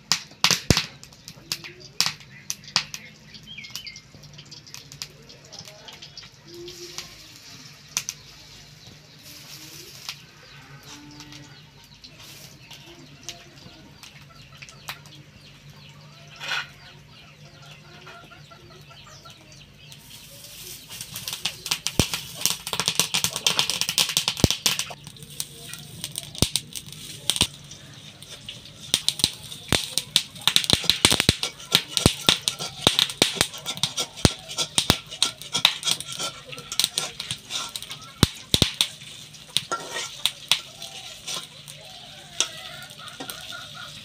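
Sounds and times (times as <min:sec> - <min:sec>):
food sizzling in hot oil: 0:00.3 - 0:14.2, 0:19.8 - 0:44.0.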